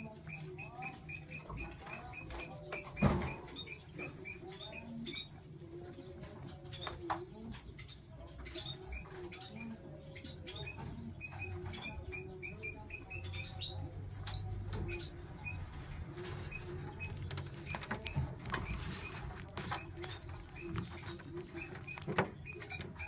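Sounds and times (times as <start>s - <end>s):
baby birds peeping: 0.0s - 23.0s.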